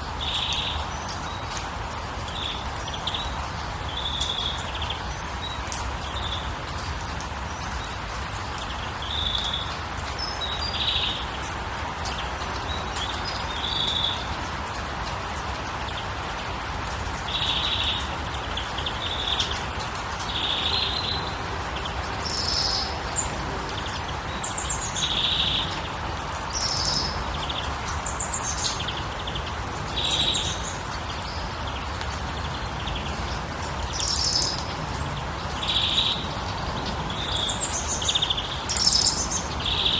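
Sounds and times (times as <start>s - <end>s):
small birds chirping: 2.3s - 39.9s.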